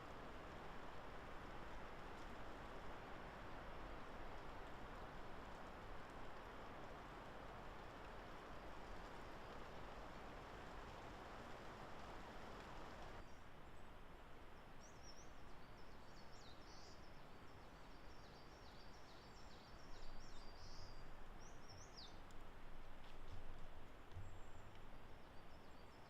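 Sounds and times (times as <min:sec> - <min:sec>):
forest background hiss: 0:00.0 - 0:26.0.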